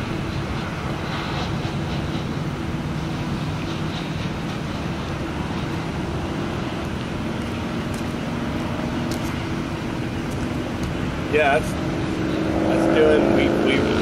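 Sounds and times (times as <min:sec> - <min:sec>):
low engine drone: 0:00.0 - 0:14.0
road traffic rumble: 0:00.0 - 0:14.0.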